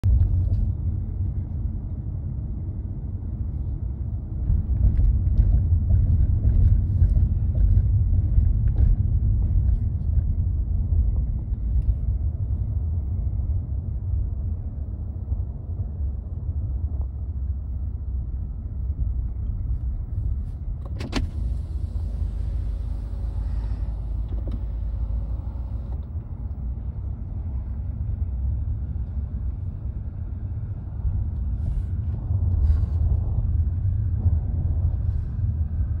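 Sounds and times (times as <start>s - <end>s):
freight train rumbling: 0.0s - 21.1s, 21.7s - 36.0s
car running noise: 0.0s - 36.0s.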